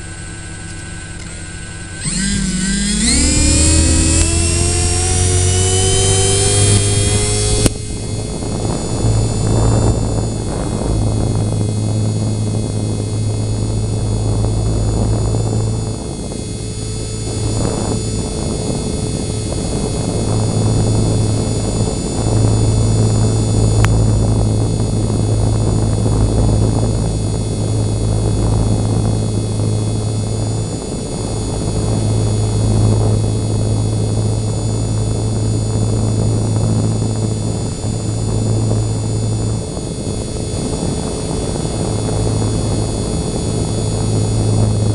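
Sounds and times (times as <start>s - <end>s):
electric motor whine: 0.0s - 44.9s
rc helicopter rotor buzz: 0.0s - 44.9s.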